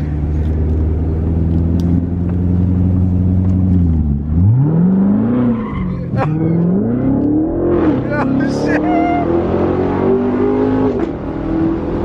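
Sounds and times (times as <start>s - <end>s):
car engine droning and revving: 0.0s - 12.0s.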